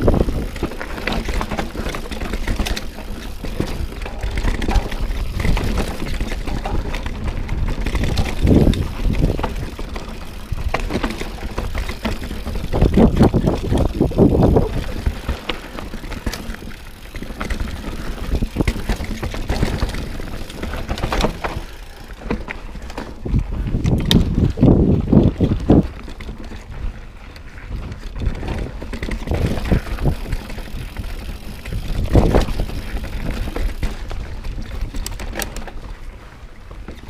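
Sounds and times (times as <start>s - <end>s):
bike rattling over bumps: 0.0s - 37.0s
bike tyres rolling and skidding on dirt: 0.0s - 37.0s.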